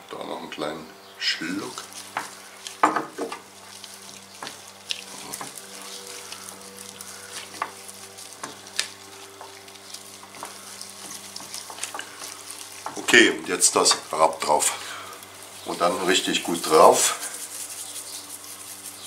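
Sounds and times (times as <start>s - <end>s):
hands rubbing raw chicken: 1.4s - 19.0s.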